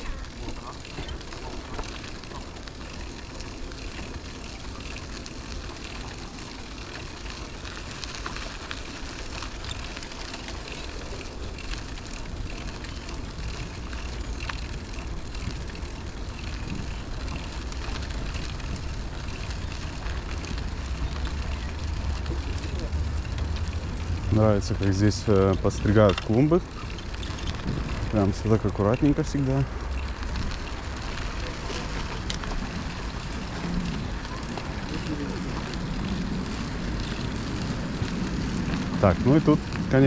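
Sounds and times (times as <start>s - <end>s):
bicycle rolling: 0.0s - 40.0s
small clicks and crackles: 0.0s - 40.0s
tyre noise: 0.0s - 40.0s
wind buffeting microphone: 0.0s - 40.0s.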